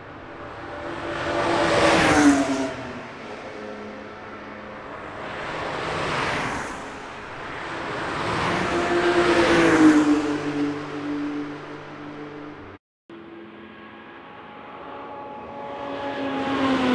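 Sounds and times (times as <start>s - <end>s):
cars driving past: 0.0s - 16.9s.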